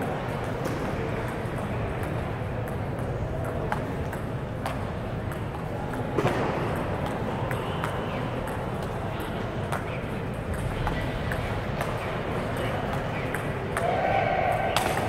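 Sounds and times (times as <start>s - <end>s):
hall background noise: 0.0s - 15.0s
table tennis ball clicking: 1.2s - 13.9s.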